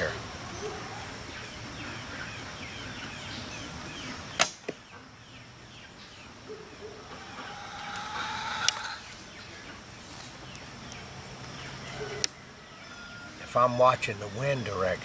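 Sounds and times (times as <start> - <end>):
faint chirping: 0.0 - 15.0.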